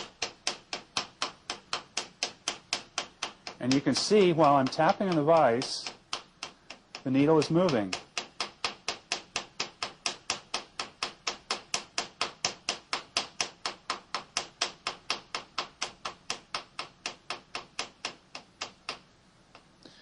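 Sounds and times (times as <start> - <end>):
soft hammer tapping metal vise: 0.0 - 20.0.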